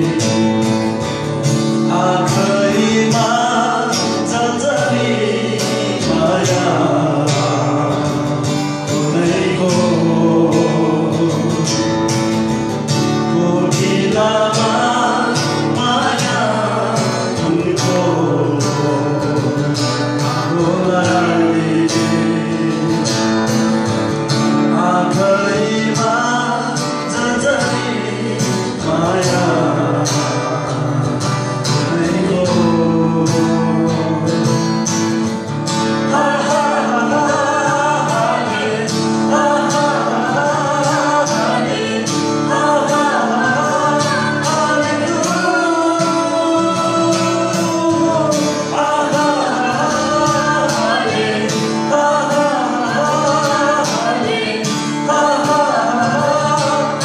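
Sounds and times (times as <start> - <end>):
man and woman singing: 0.0 - 57.0
strummed acoustic guitar: 0.0 - 57.0.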